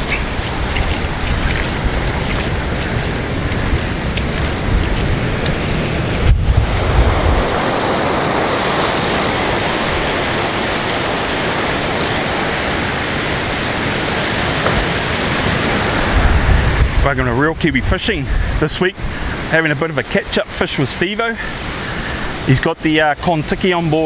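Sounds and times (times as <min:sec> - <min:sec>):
wind buffeting the microphone: 0:00.0 - 0:19.6
surf breaking on a beach: 0:00.0 - 0:24.0.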